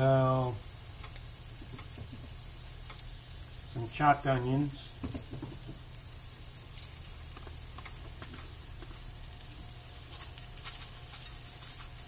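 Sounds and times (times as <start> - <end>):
fat crackling and popping: 0.0 - 12.0
pork chop sizzling in a frying pan: 0.0 - 12.0.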